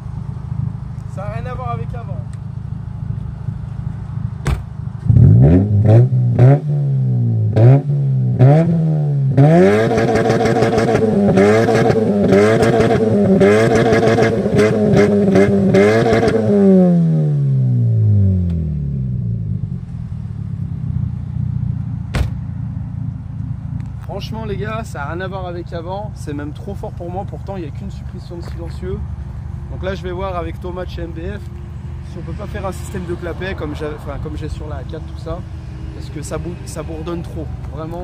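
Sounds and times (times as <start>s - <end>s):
loud droning car exhaust revving: 0.0s - 27.6s, 29.0s - 38.0s.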